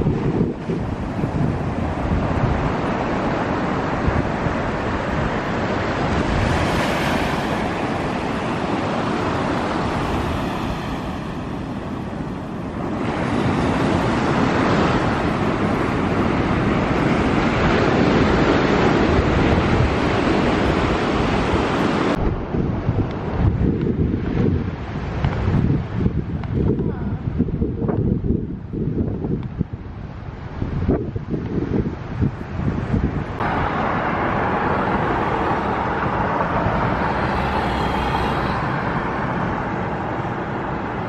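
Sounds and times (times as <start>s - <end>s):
waves breaking on beach: 0.0s - 27.6s, 29.8s - 41.0s
wind buffeting microphone: 0.0s - 41.0s.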